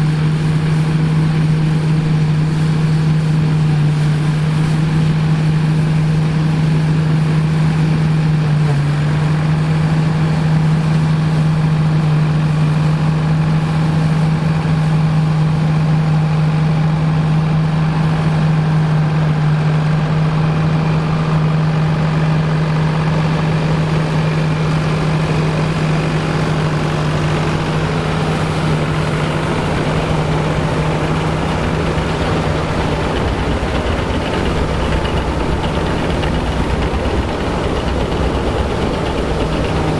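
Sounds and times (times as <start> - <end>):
farm machine engine humming: 0.0 - 39.9.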